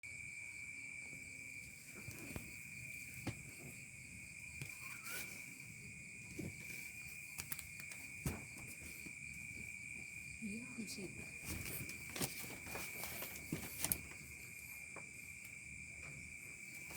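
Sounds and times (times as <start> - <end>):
insects chirring: 0.0 - 16.9.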